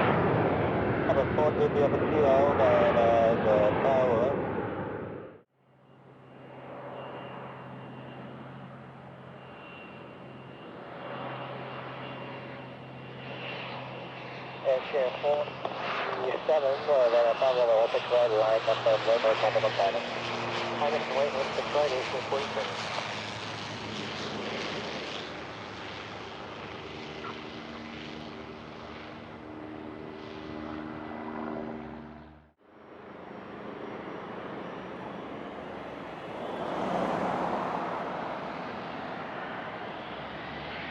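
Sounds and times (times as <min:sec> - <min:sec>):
jet engines running: 0:00.0 - 0:40.9
outdoor background: 0:00.0 - 0:40.9.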